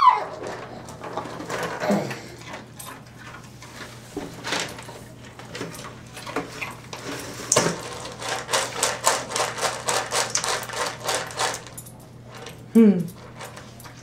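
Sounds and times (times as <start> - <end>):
dry kibble clattering and crunching: 0.0 - 14.0.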